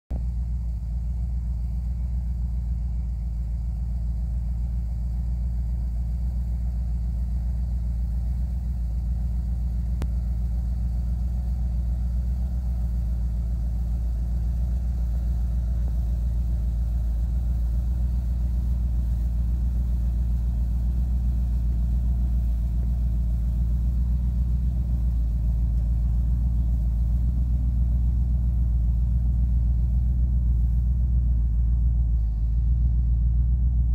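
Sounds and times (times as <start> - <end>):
pickup truck engine idling: 0.1 - 33.9.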